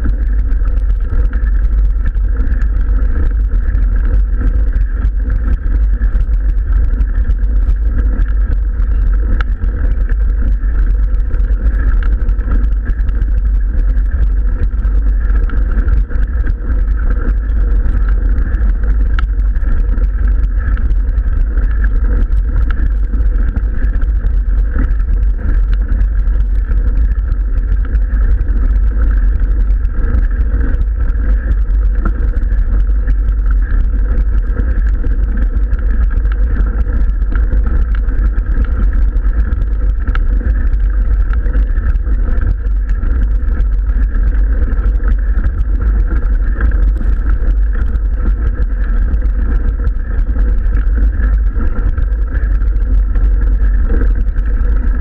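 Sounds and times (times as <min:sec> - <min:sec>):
wind rumble on camera: 0:00.0 - 0:55.0.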